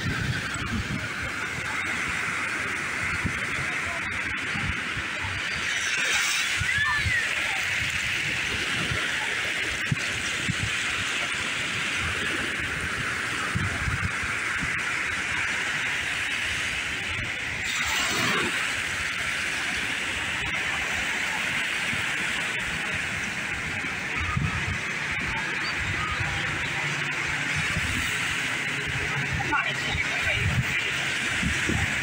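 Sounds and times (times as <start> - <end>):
small waves washing on sand: 0.0 - 32.0.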